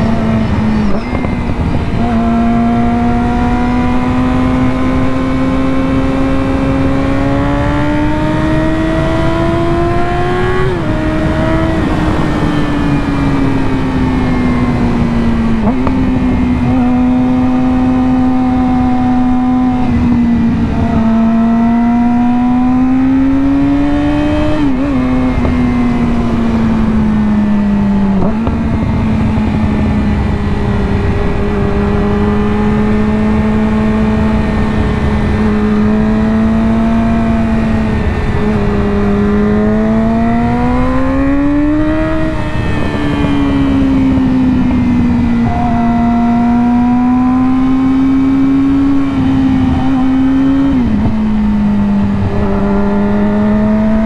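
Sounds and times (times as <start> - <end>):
motorcycle engine with gear changes: 0.0 - 54.0.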